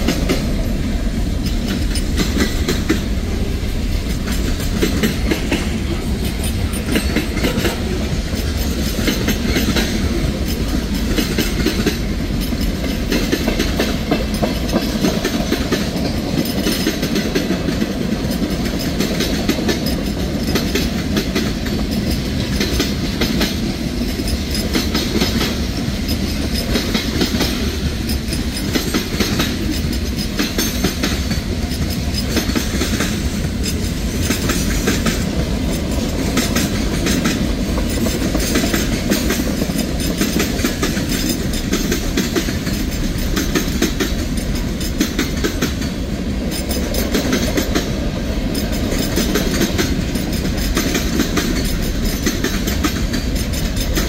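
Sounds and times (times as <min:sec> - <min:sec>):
freight train rumbling past: 0:00.0 - 0:54.0
train wheels clacking over rails: 0:00.0 - 0:54.0.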